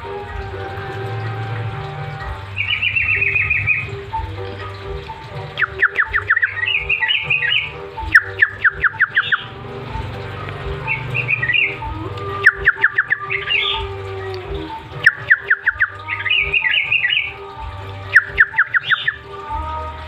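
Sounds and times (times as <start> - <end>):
bulbul song: 0.0 - 20.0.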